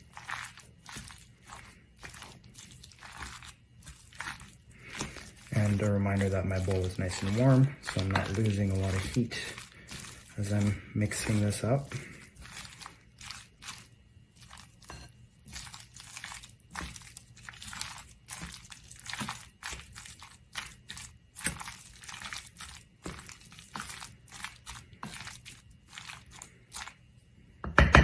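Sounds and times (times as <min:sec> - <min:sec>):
mixture being stirred and mashed in a bowl: 0:00.0 - 0:28.0.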